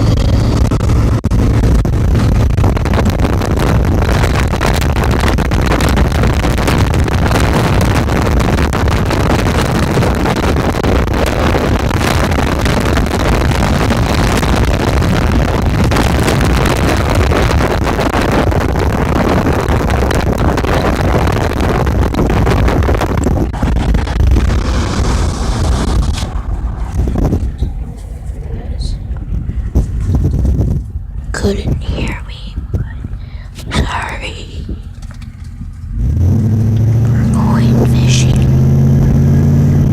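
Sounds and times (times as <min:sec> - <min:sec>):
engine drone: 0:00.0 - 0:39.9
wind buffeting microphone: 0:00.0 - 0:39.9.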